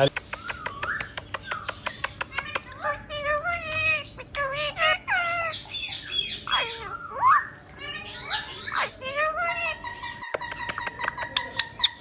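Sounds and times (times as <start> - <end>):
parrot calls and chatter: 0.0 - 12.0.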